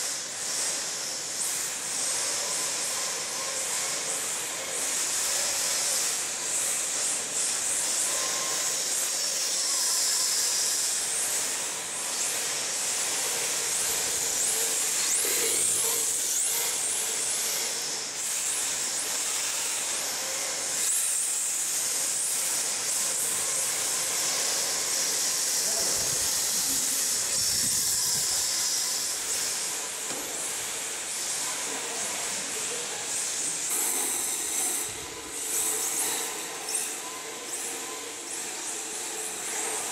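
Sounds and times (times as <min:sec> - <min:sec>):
electric motor whine: 0:00.0 - 0:39.9
tyres scrubbing on concrete: 0:00.0 - 0:39.9.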